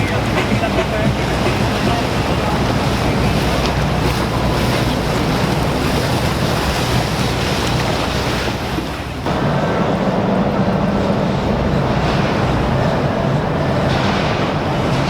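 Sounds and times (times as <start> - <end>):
motorboat engine drone: 0.0 - 15.0
rushing water: 0.0 - 15.0
wind buffeting microphone: 0.0 - 15.0.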